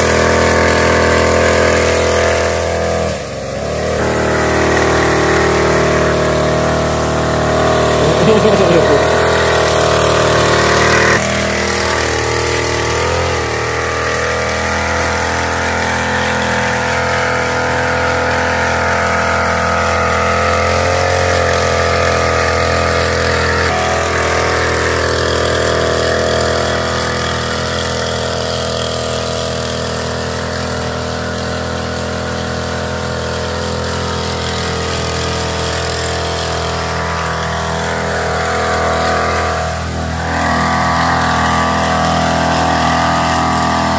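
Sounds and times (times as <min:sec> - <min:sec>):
power sprayer engine running: 0:00.0 - 0:43.9.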